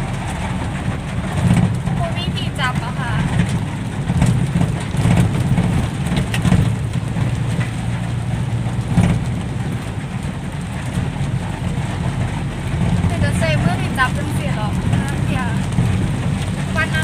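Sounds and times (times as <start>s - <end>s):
knocks and rattles: 0.0s - 17.0s
truck diesel engine running: 0.0s - 17.0s.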